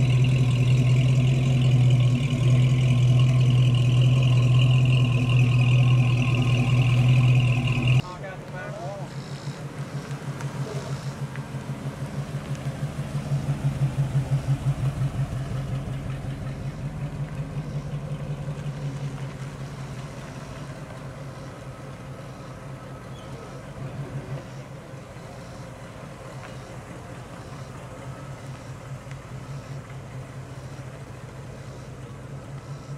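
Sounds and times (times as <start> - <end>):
car engine driving past: 0.0 - 32.9.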